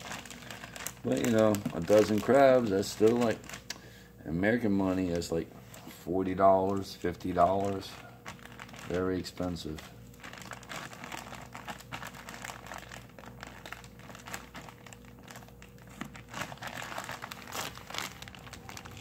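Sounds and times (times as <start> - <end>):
plastic bag crinkling: 0.0 - 3.9, 4.5 - 19.0.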